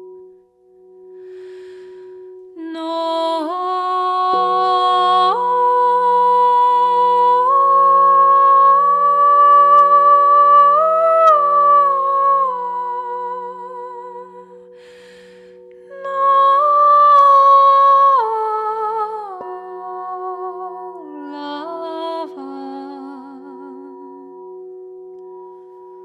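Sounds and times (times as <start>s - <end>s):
crystal singing bowls ringing: 0.0s - 26.0s
low wavering bowl tone: 0.0s - 26.0s
woman singing wordless melody: 1.0s - 26.0s.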